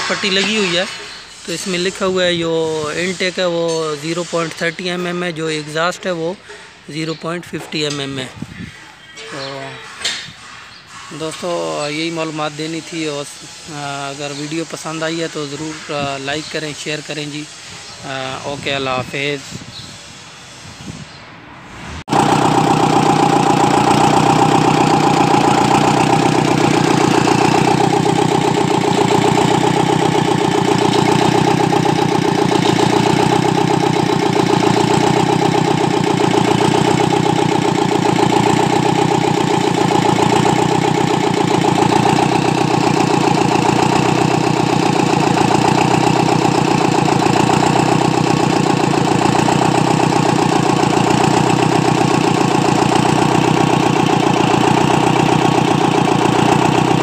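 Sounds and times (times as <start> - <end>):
diesel engine idling: 0.0 - 8.3, 10.9 - 19.4, 22.0 - 57.0.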